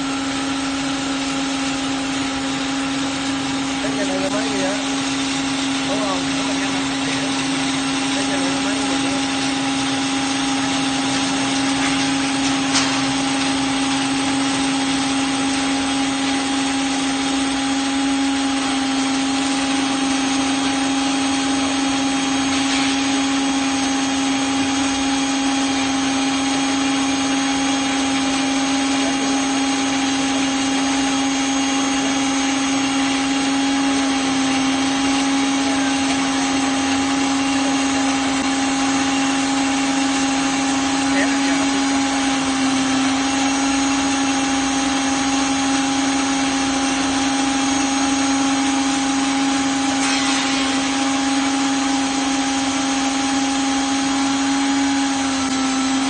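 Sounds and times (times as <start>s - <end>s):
electric motor humming: 0.0s - 56.0s.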